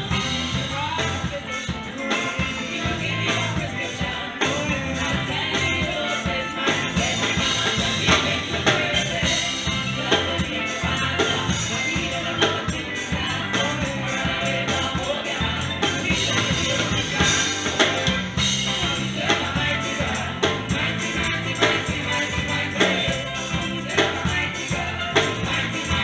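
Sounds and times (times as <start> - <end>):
live band playing worship song: 0.0 - 26.0
voices singing along: 0.0 - 26.0.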